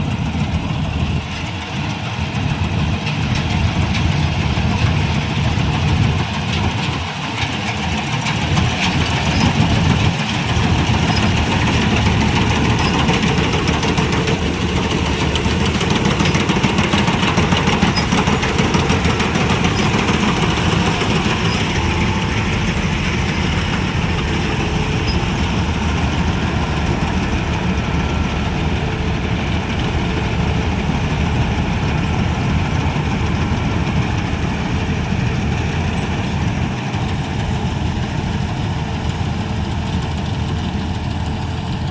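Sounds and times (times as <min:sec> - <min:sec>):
combine harvester engine rumble: 0:00.0 - 0:41.9
mechanical clatter: 0:00.5 - 0:37.4.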